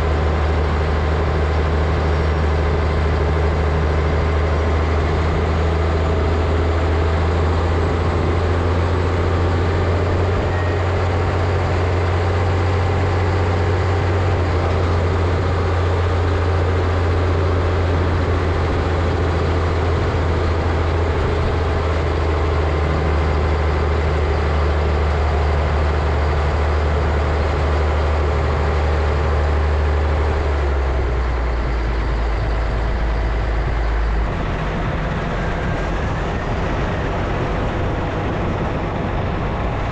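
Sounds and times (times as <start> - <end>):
diesel engine droning under load: 0.0 - 39.9.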